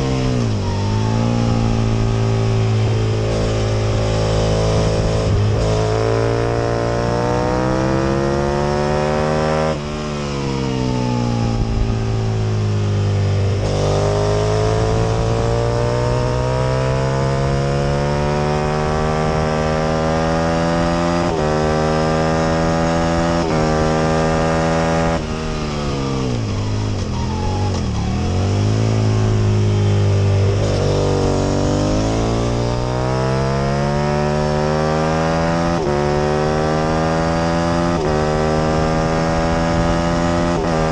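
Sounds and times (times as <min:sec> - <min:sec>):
motorcycle engine revving through gears: 0:00.0 - 0:40.9.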